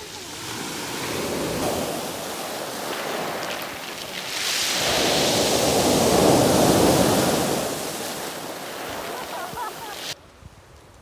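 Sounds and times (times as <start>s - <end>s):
waves washing up pebble beach: 0.0s - 10.2s.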